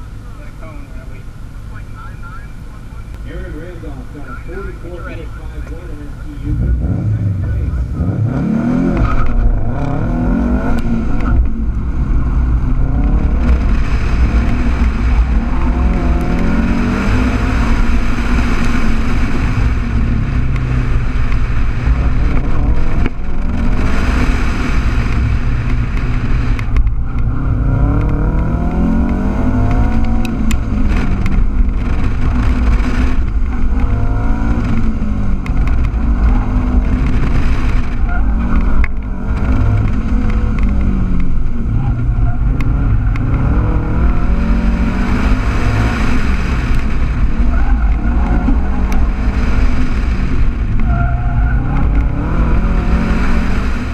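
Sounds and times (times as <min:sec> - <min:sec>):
car engine revving: 0:00.0 - 0:53.9
wind rumble on microphone: 0:04.2 - 0:53.9.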